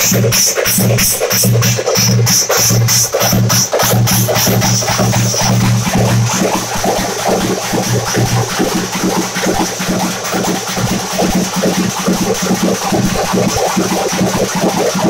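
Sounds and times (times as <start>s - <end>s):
hand drums played with sticks: 0.0s - 15.0s
steady low tone: 0.8s - 13.6s.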